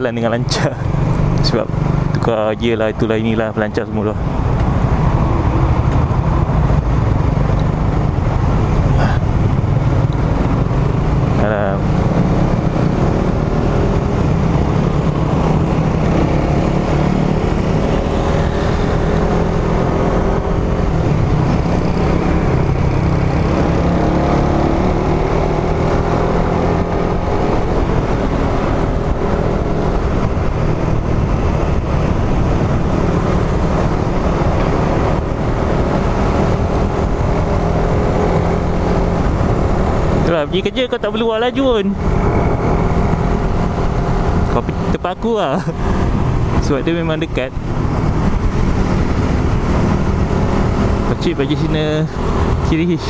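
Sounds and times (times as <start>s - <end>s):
motorcycle engine running: 0.2s - 2.7s, 4.2s - 53.0s
wind rush: 3.9s - 53.0s.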